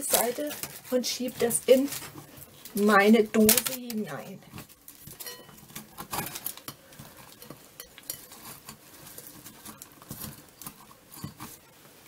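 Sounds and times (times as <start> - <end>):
twigs clicking and rustling in leaves: 0.0 - 11.7.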